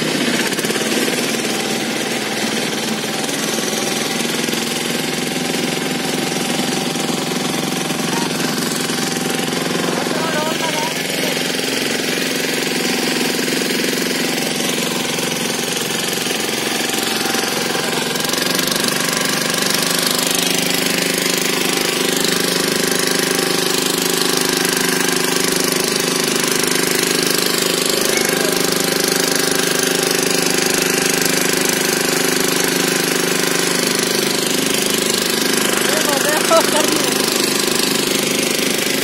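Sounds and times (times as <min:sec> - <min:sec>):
motorboat engine running: 0:00.0 - 0:39.0.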